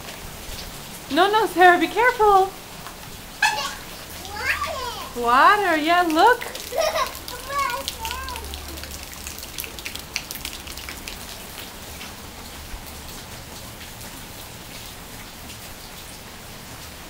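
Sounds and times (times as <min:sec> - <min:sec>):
steady rain falling: 0:00.0 - 0:17.0
small sharp drips: 0:01.9 - 0:16.9.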